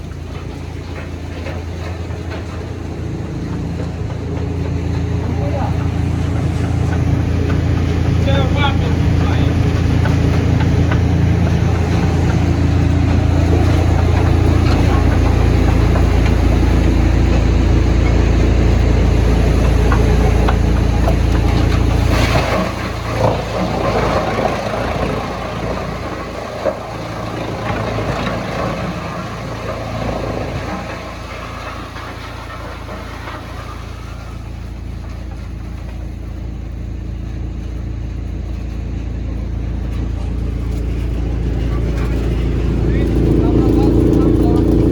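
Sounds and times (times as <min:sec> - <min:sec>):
knocks and clatter: 0:00.0 - 0:36.2
heavy machine engine humming: 0:00.0 - 0:44.9.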